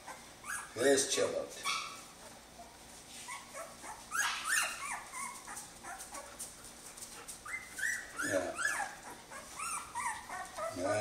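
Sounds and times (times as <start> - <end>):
puppies whimpering: 0.0 - 1.0, 1.6 - 6.6, 7.3 - 11.0.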